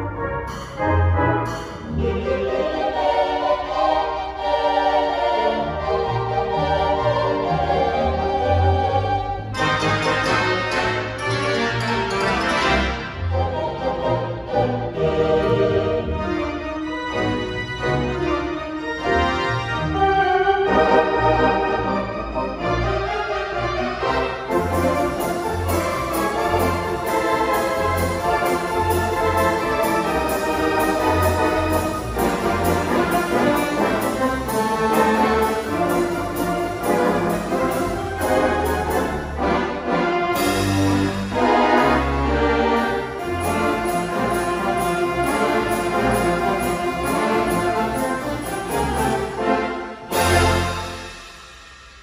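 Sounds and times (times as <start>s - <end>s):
organ pedal bass: 0.0s - 51.0s
pipe organ playing chords: 0.0s - 51.3s.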